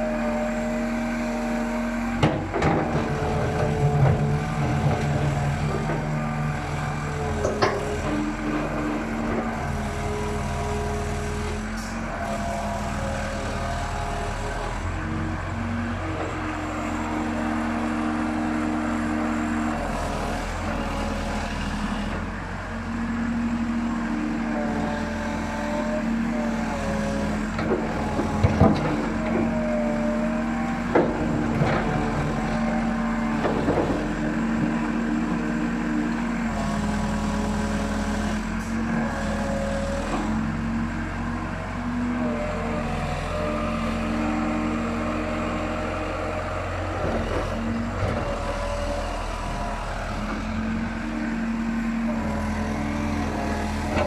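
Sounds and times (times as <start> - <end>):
diesel excavator engine working: 0.0 - 54.0.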